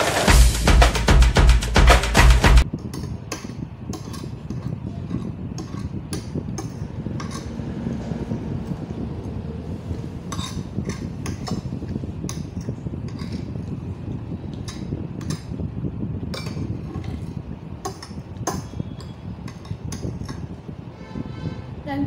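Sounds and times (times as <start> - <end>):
low background rumble: 2.6 - 22.0.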